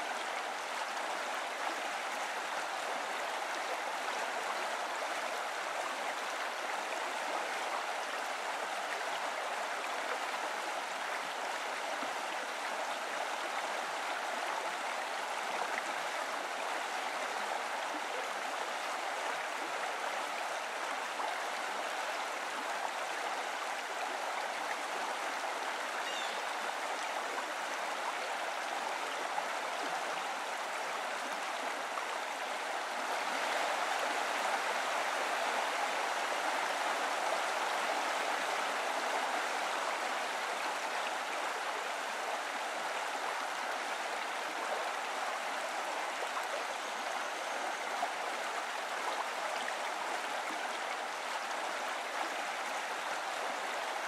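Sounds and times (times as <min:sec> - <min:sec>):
flowing mountain stream: 0:00.0 - 0:54.0.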